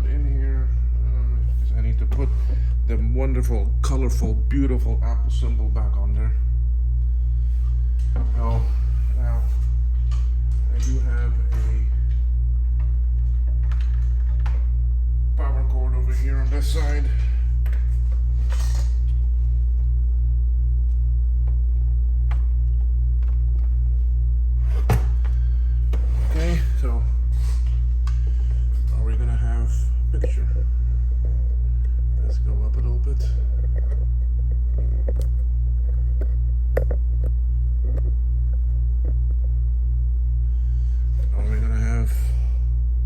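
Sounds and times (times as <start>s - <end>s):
pulsing electrical hum: 0.0s - 43.0s.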